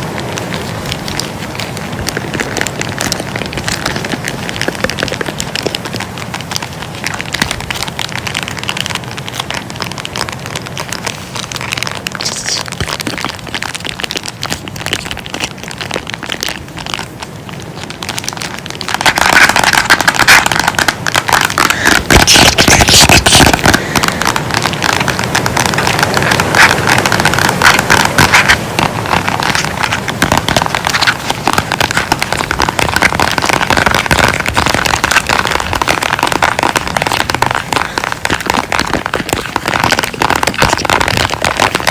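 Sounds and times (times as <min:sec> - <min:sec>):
close crinkling crackles: 0:00.0 - 0:41.9.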